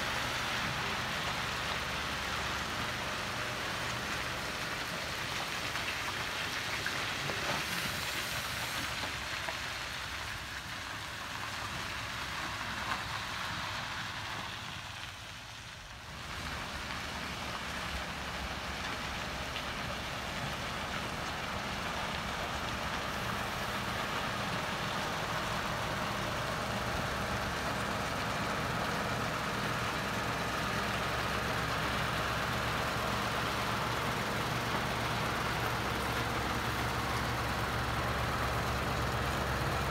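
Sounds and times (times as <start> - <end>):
diesel engine humming: 0.0 - 15.0, 15.8 - 39.9
noisy hiss: 0.0 - 39.9.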